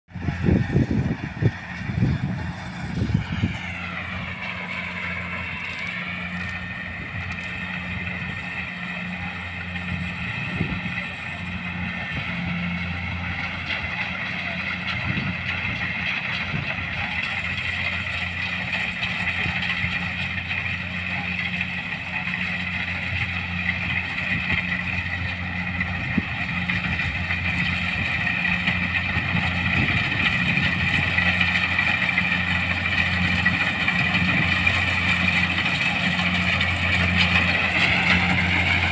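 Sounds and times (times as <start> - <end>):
combine harvester engine drone: 0.1 - 38.9.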